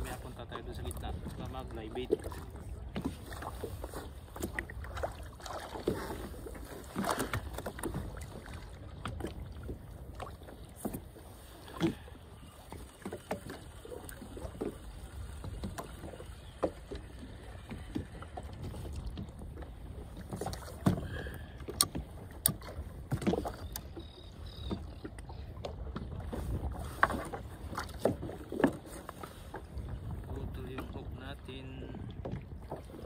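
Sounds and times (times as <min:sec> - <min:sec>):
wind and water rumble: 0:00.0 - 0:33.0.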